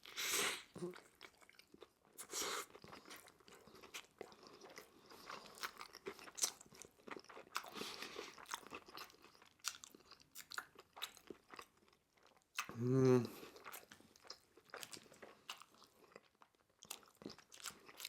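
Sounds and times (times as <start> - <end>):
crunching and chewing fried chicken: 0.8 - 18.0.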